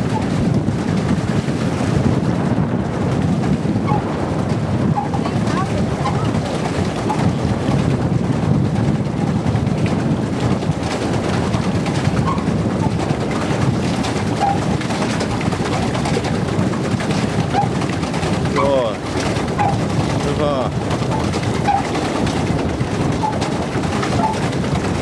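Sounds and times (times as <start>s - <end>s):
paddle wheel churning water: 0.0s - 25.0s.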